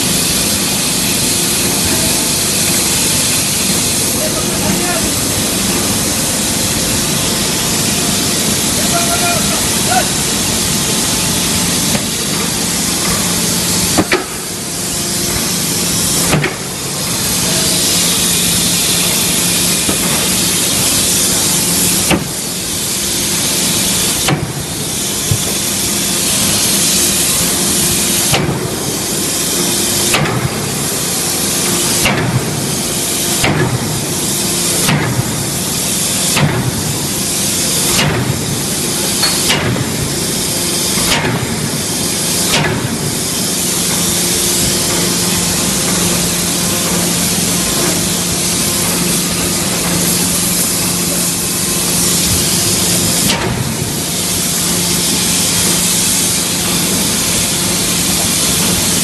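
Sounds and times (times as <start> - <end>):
steady loud hiss: 0.0 - 59.0.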